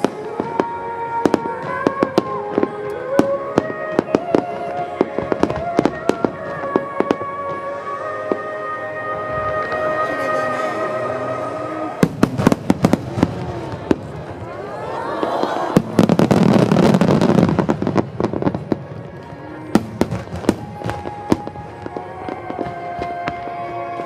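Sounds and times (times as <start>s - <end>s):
fireworks cracking and banging: 0.0s - 8.5s, 11.7s - 24.0s
fireworks rumble: 0.0s - 24.0s
music: 0.0s - 24.0s.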